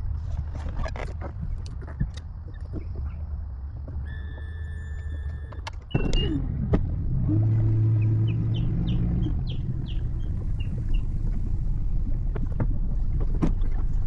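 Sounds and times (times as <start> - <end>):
boat motor rumbling: 0.0 - 14.0.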